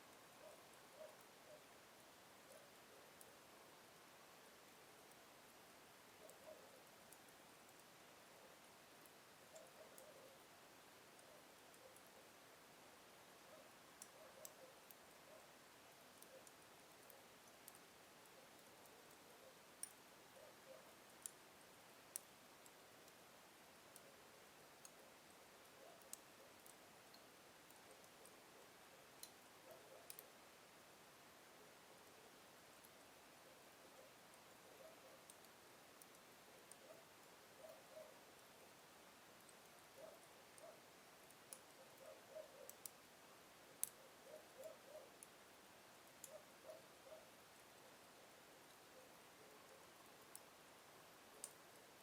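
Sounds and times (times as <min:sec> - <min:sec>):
soft hiss of flames: 0:00.0 - 0:52.0
wood fire crackling: 0:00.1 - 0:52.0.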